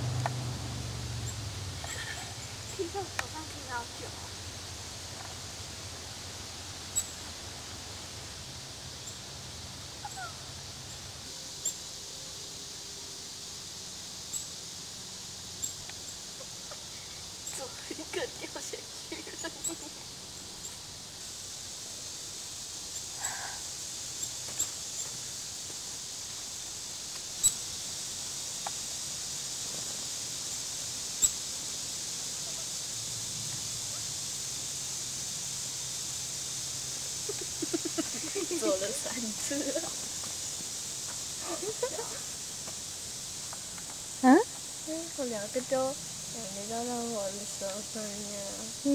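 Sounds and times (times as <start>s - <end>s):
songbirds chirping: 0.0s - 48.9s
steady outdoor hiss: 0.0s - 48.9s.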